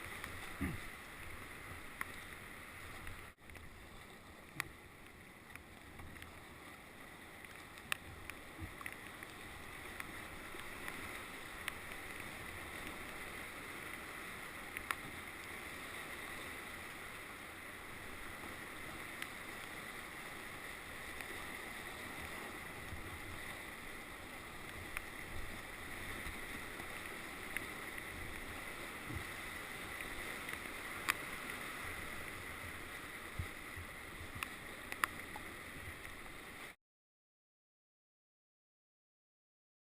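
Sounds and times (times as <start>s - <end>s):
fast river water rushing: 0.0s - 36.8s.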